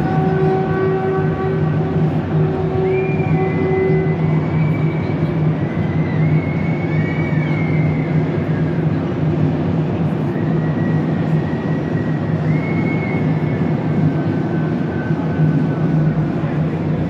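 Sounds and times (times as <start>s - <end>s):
low hum of busy indoor hall: 0.0s - 17.0s.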